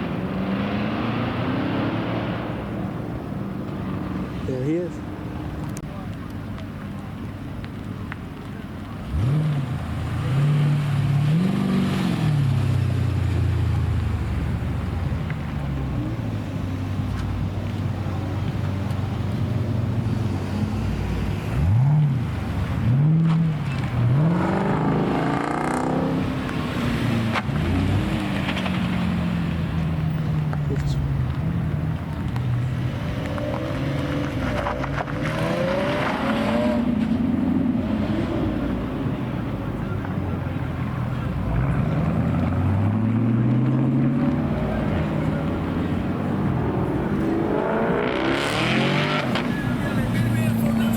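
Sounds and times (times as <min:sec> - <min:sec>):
car engine revving: 0:00.0 - 0:05.8, 0:08.9 - 0:50.9
car engines rumbling: 0:00.0 - 0:50.9.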